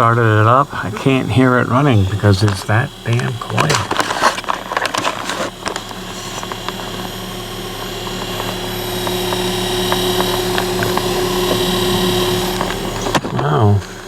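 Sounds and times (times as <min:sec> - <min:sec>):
higher steady tone: 0:00.0 - 0:14.0
steady machine hum: 0:00.0 - 0:14.0.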